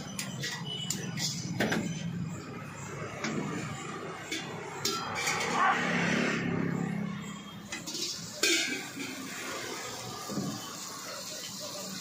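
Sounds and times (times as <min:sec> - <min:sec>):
metal utensils clanking on pans: 0:00.0 - 0:12.0
street noise: 0:00.0 - 0:12.0.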